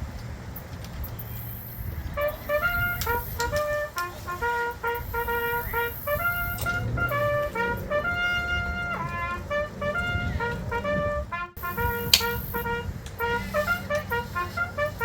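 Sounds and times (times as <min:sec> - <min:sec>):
trumpet music with held notes: 0:01.8 - 0:15.0.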